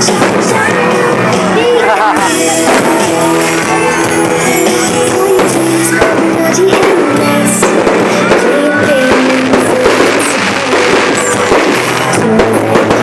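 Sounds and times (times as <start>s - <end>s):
pop-rock song over sound system: 0.0s - 13.0s.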